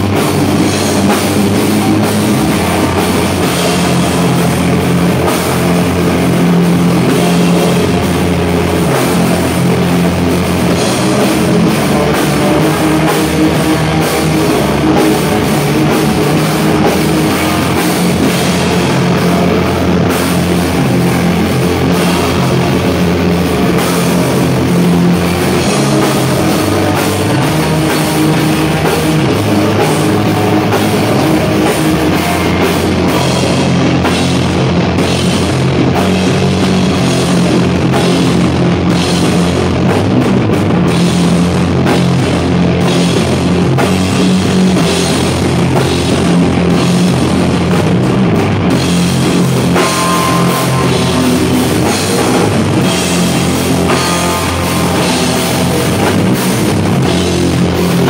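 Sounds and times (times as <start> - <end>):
bass guitar: 0.0 - 58.0
distorted electric guitar: 0.0 - 58.0
pounding drum kit: 0.0 - 58.0.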